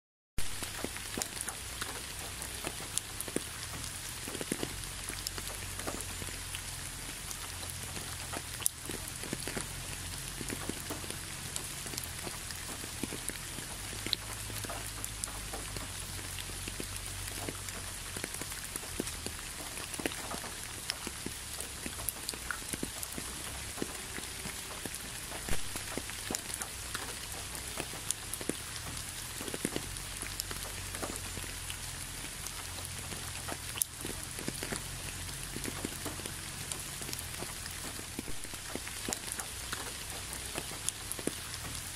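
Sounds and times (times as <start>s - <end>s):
raindrops ticking: 0.4s - 41.9s
steady rain hiss: 0.4s - 41.9s.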